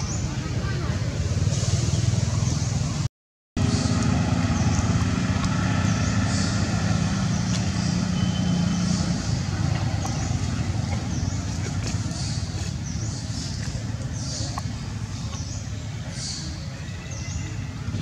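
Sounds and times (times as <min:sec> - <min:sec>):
vehicle engine running: 0:00.2 - 0:16.2.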